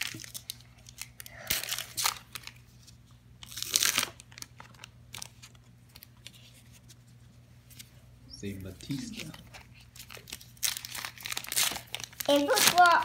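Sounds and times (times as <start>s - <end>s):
cards rustling: 0.0s - 13.0s
faint steady hum: 0.0s - 13.0s.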